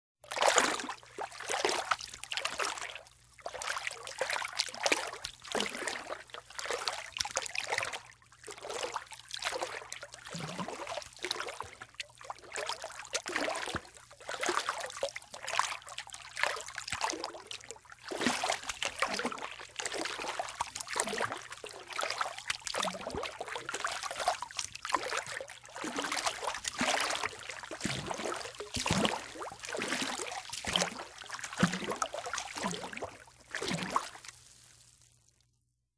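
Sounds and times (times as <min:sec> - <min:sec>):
person wading through water: 0:00.2 - 0:34.7.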